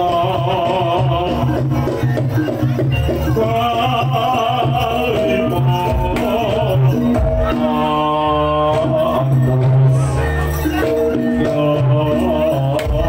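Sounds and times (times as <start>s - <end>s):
traditional music with percussion: 0.0s - 13.0s
wavering melody: 0.0s - 13.0s.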